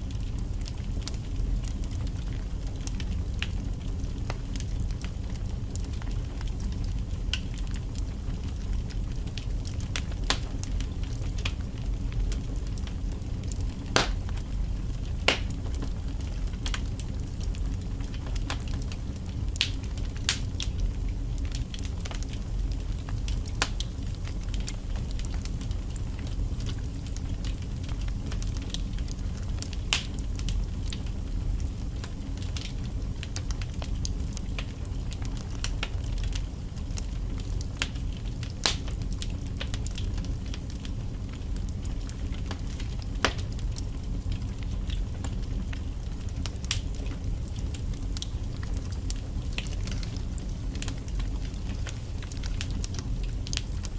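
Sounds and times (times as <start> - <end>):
fire flames rumbling: 0.0 - 53.9
logs crackling and popping: 0.1 - 53.9.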